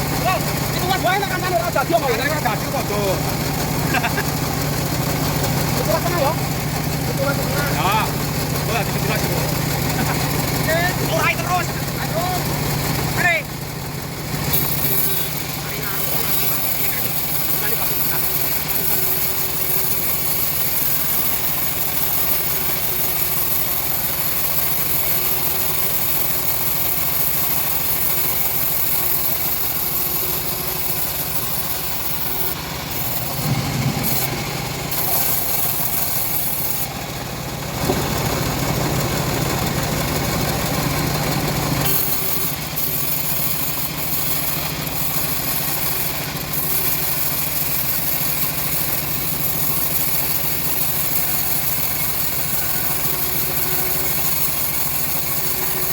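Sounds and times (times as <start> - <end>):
bandsaw mill sawing wood: 0.0 - 55.9.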